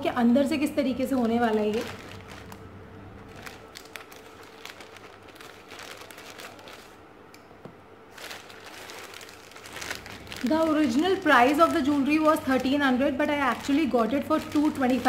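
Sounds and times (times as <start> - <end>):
plastic bag crinkling: 1.0 - 7.0, 8.1 - 15.0.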